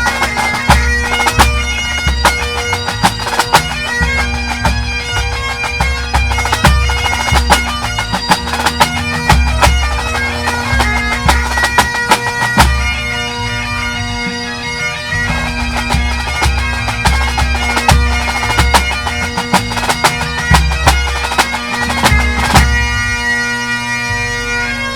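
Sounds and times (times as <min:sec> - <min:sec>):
snare and bass drums: 0:00.0 - 0:12.9, 0:15.3 - 0:23.0
bagpipes playing melody: 0:00.0 - 0:24.9.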